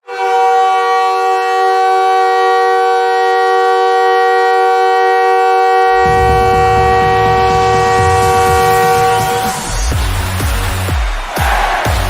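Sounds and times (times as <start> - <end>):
air horn chord blast: 0.0 - 10.9.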